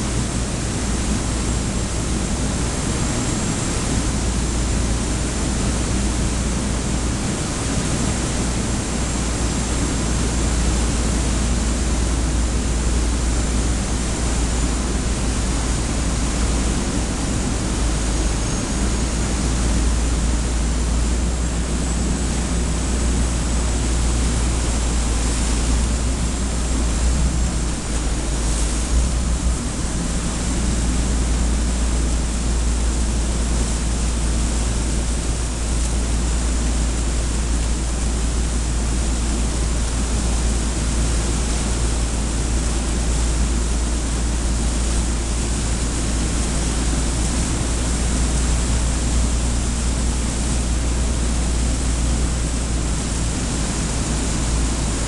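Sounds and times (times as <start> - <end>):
deep steady rumble: 0.0 - 55.0
water churning: 0.0 - 55.0.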